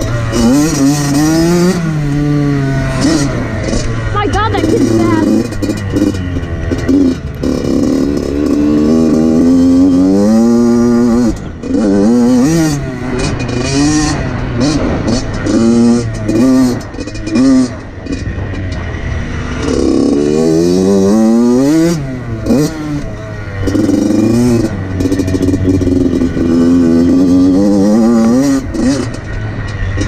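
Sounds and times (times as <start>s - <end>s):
two-stroke engine revving: 0.0s - 30.0s.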